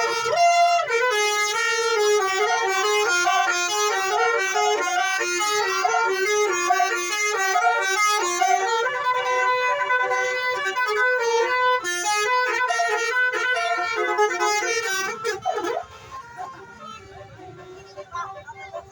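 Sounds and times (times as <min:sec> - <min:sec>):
musical vehicle horn playing tune: 0:00.0 - 0:18.5.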